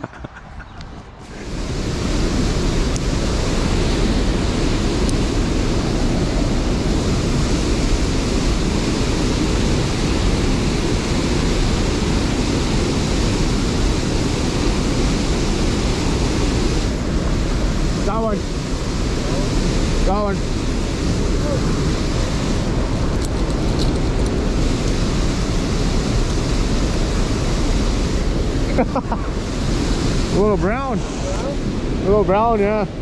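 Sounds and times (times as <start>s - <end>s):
turbulent water rushing: 1.2s - 33.0s.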